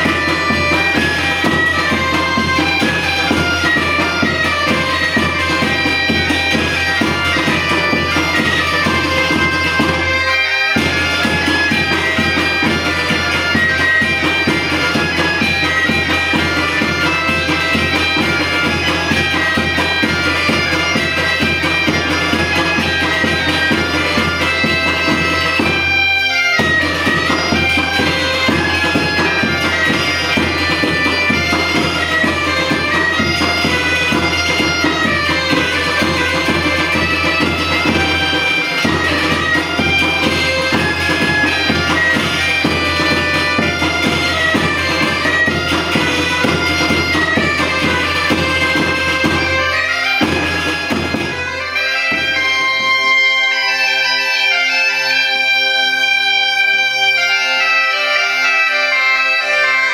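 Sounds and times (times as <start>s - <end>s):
bagpipe tune over drone: 0.0s - 59.9s.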